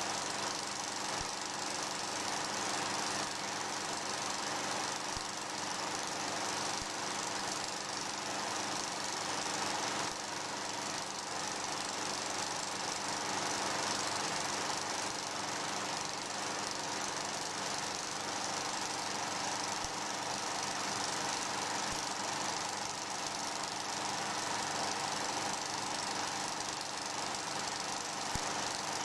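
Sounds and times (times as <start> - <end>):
film projector whirring: 0.0 - 29.0.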